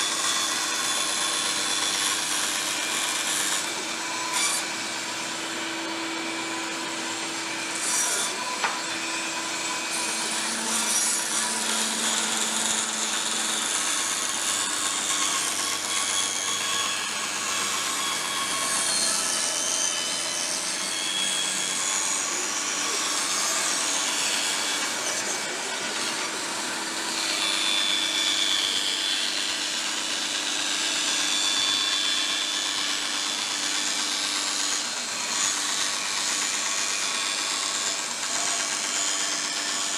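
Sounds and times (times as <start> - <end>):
bandsaw cutting plywood: 0.0 - 39.9
bandsaw motor hum: 0.0 - 39.9.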